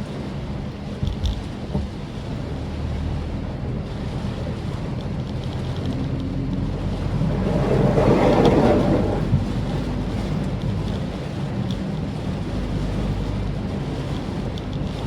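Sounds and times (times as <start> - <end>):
car engine and tyre hum: 0.0 - 15.0
tyres rushing on wet road: 0.0 - 15.0.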